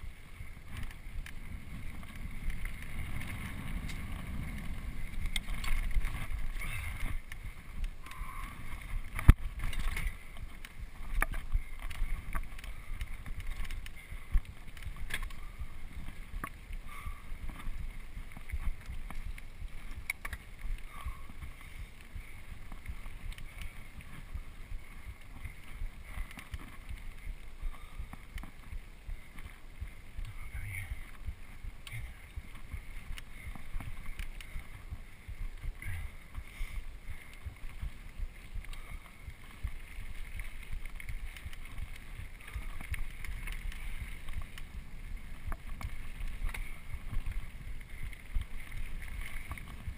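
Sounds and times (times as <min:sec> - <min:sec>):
bike clicks and rattles: 0:00.0 - 0:49.9
tyres rumbling on dirt trail: 0:00.0 - 0:49.9
wind buffeting microphone: 0:00.0 - 0:49.9.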